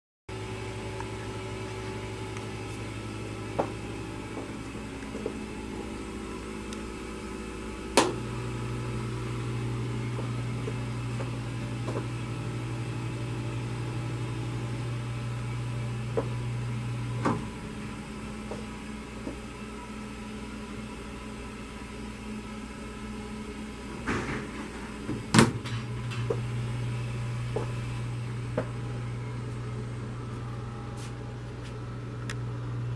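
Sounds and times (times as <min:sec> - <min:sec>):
motor humming: 0:00.3 - 0:32.9.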